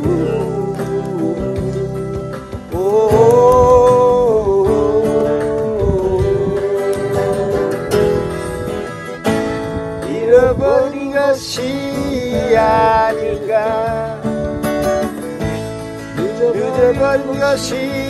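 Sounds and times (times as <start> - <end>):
man singing: 0.0 - 9.1, 9.7 - 14.6, 16.0 - 18.0
acoustic guitar ballad: 0.0 - 18.0.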